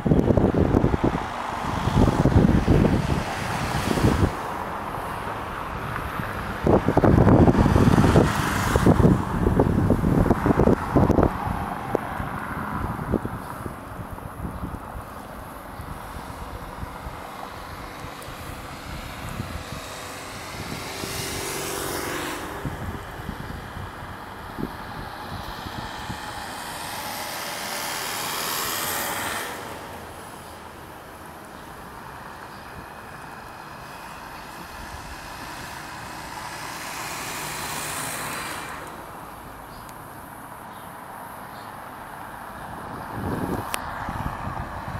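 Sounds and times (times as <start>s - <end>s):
wind buffeting microphone: 0.0s - 39.8s, 42.4s - 44.9s
van driving past: 0.0s - 40.2s
background traffic noise: 0.0s - 44.9s
vehicle passing close: 0.0s - 44.9s.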